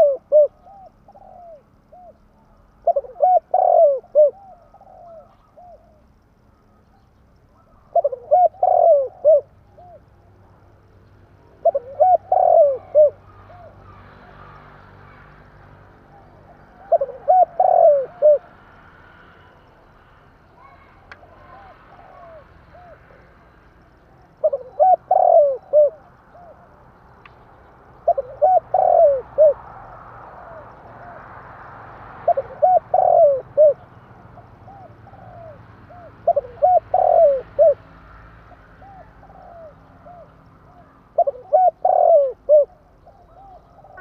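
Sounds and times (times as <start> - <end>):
dove cooing: 0.0 - 10.3, 11.4 - 15.2, 16.0 - 18.6, 20.6 - 26.8, 28.0 - 31.3, 32.2 - 37.9, 38.5 - 44.0.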